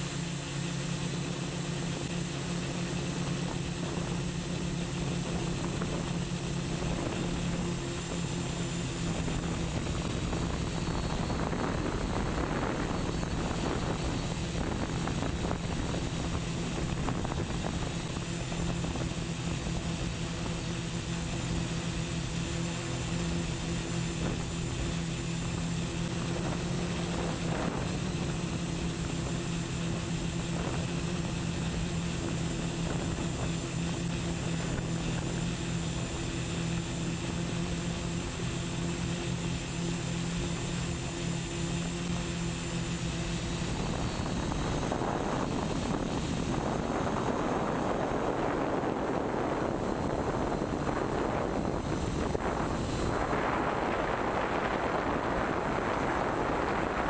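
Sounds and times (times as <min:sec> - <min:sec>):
drone motors humming: 0:00.0 - 0:57.0
rush of noise: 0:00.0 - 0:57.0
thin high whine: 0:00.0 - 0:57.0.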